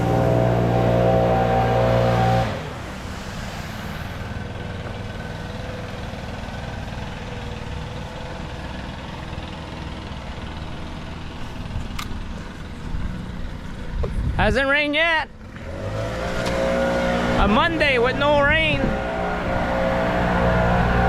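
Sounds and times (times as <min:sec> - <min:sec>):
loud engine running: 0:00.0 - 0:21.0
low engine rumble: 0:00.0 - 0:21.0.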